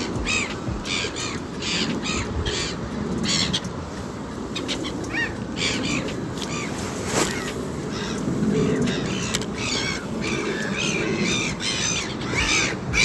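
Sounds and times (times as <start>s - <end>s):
birds harsh calls: 0.0s - 13.0s.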